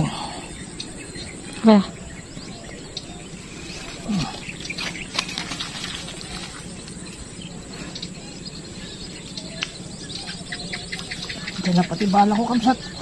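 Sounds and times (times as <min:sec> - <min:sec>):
birds chirping: 0:00.0 - 0:13.0
insects chirping: 0:00.0 - 0:13.0.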